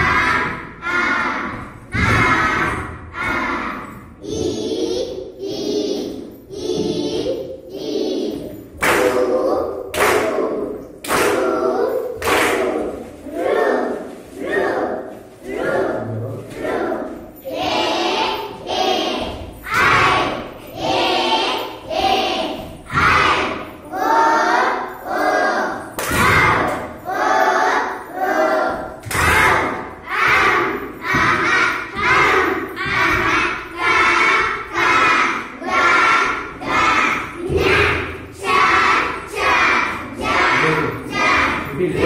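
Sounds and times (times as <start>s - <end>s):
children singing: 0.0s - 42.0s.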